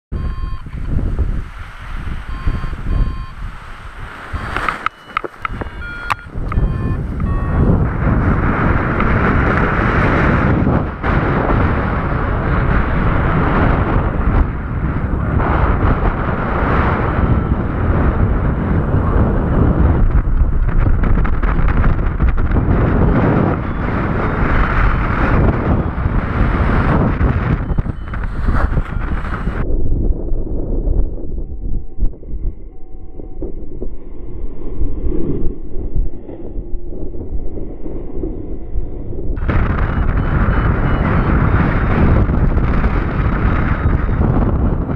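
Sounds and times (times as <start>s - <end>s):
strong wind buffeting microphone: 0.1s - 44.9s.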